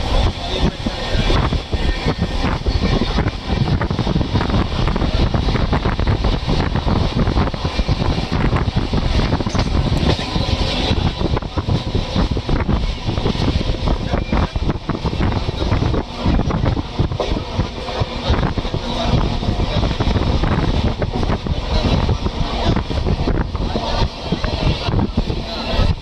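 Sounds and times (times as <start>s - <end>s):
train wheels rumbling on track: 0.0s - 26.0s
wind buffeting microphone: 0.0s - 26.0s.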